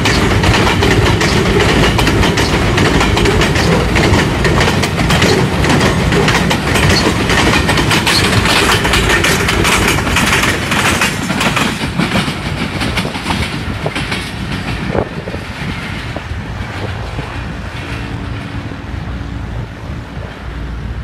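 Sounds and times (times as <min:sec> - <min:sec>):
train wheels clattering over rail joints: 0:00.0 - 0:18.6.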